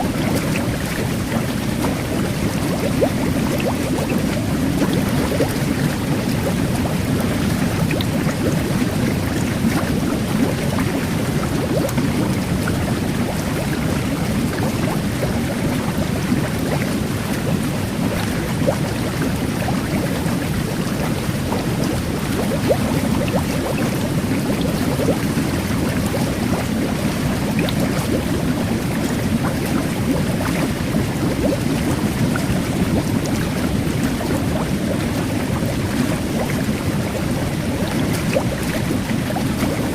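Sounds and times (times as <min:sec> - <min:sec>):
jet bath water churning: 0:00.0 - 0:39.9
microbubbles fizzing: 0:00.0 - 0:39.9.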